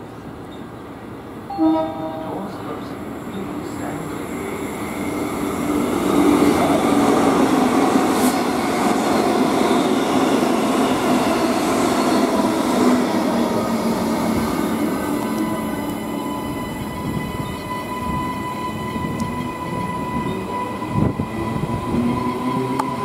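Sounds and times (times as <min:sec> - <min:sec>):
electric train passing: 0:00.1 - 0:23.0.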